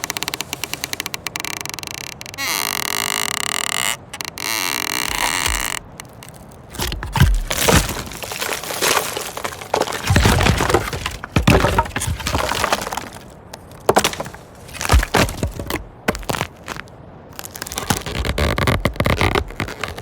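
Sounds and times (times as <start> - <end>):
wood cracking and splintering: 0.0 - 20.0.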